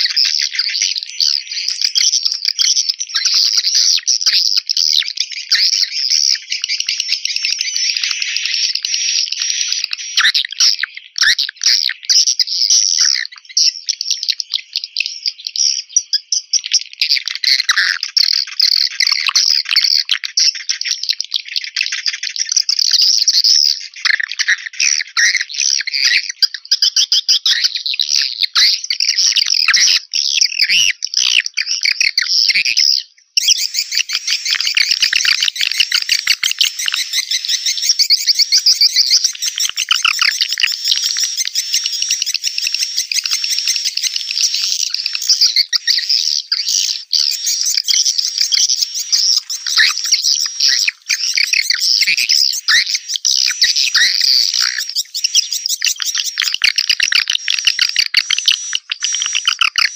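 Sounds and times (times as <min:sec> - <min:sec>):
rapid high bird twittering: 0:00.0 - 0:59.9.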